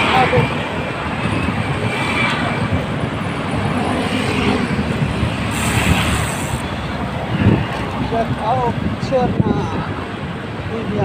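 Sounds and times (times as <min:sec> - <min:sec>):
road traffic: 0:00.0 - 0:11.0
wind rumble on microphone: 0:00.0 - 0:11.0.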